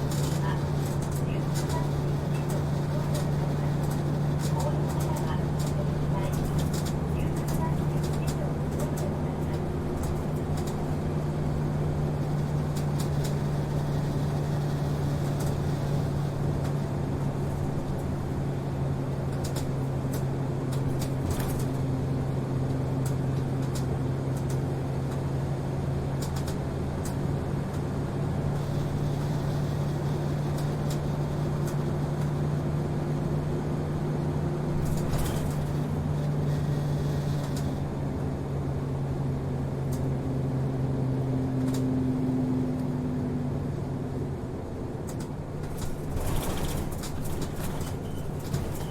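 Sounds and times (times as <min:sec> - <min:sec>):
bus body clicks and rattles: 0:00.0 - 0:28.0, 0:28.6 - 0:40.5, 0:41.2 - 0:42.0, 0:44.6 - 0:48.9
bus engine humming: 0:00.0 - 0:48.9.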